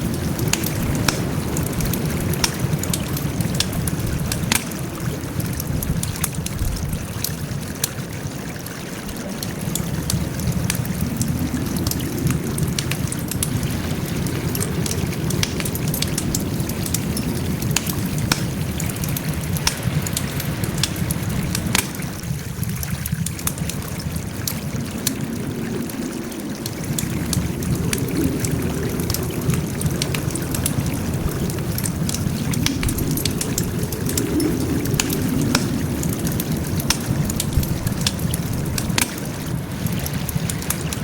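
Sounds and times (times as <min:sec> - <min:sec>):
fire rushing: 0:00.0 - 0:08.0, 0:09.2 - 0:41.0
burning logs crackling and popping: 0:00.0 - 0:41.0.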